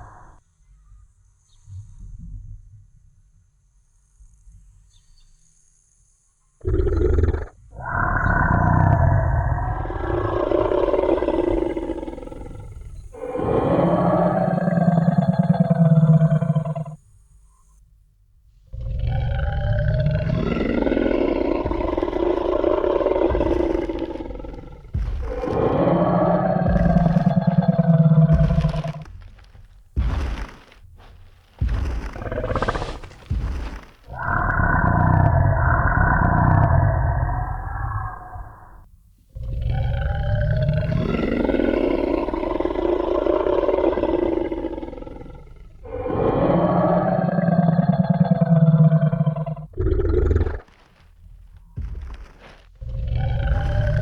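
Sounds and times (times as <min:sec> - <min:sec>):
deep dinosaur roars: 0:06.6 - 0:17.0, 0:18.7 - 0:54.0.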